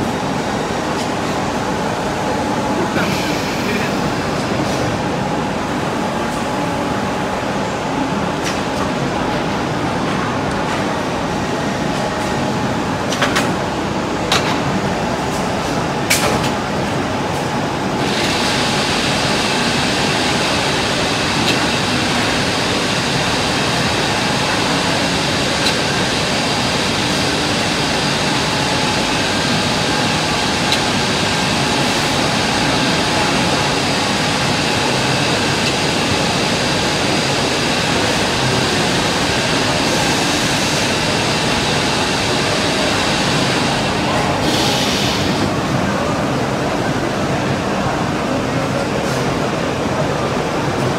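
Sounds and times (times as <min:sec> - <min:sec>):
machine whirring: 0:00.0 - 0:47.5.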